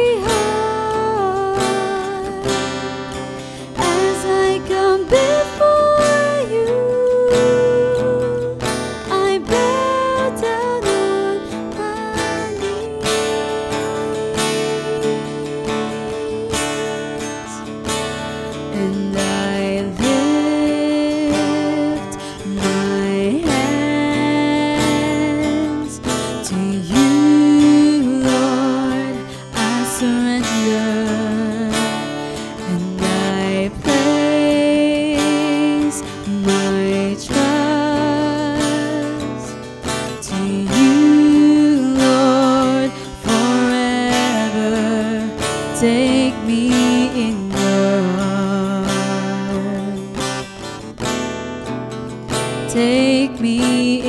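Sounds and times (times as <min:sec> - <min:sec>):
woman singing a worship song: 0:00.0 - 0:17.7, 0:18.5 - 0:50.4, 0:52.6 - 0:54.0
strummed acoustic guitar: 0:00.0 - 0:54.0.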